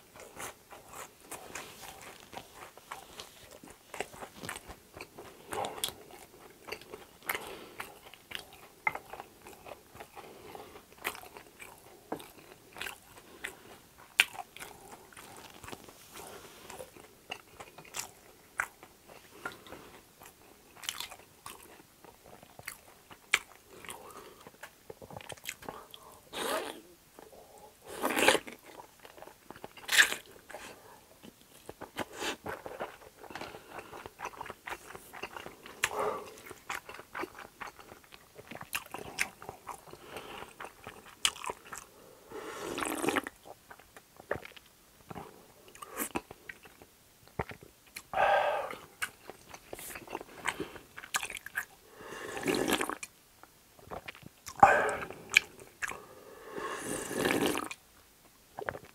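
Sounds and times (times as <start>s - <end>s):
person chewing close to microphone: 0.0s - 26.6s, 27.2s - 42.0s, 42.6s - 53.2s, 53.8s - 56.1s, 58.6s - 58.9s.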